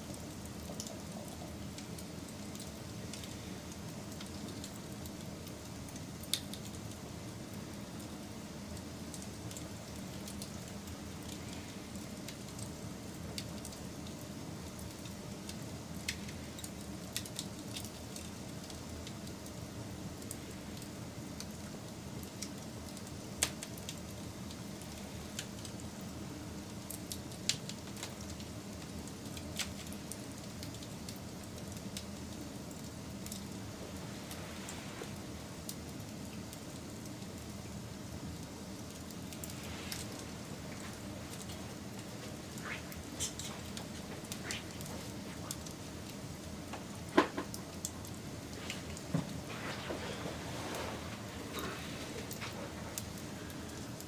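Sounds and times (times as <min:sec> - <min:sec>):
fire crackles and pops: 0:00.0 - 0:54.0
fire flames rumbling: 0:00.0 - 0:54.0.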